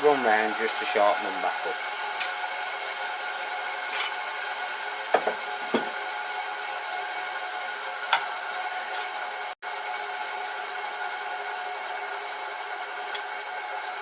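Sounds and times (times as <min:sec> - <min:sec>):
bench grinder whining: 0:00.0 - 0:14.0.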